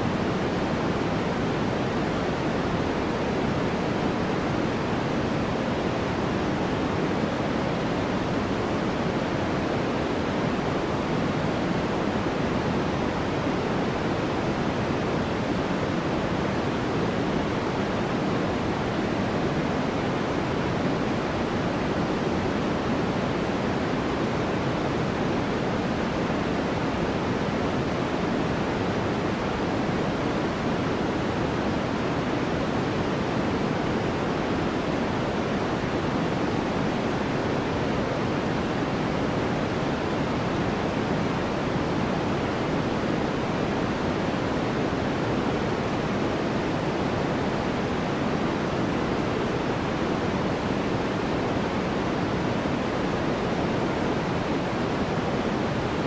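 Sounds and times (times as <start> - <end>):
steady white noise: 0.0 - 56.0.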